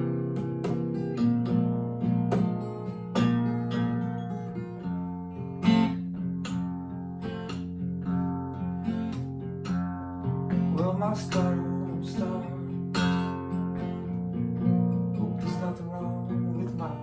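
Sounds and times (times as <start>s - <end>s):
blues guitar plucked notes: 0.0s - 17.0s.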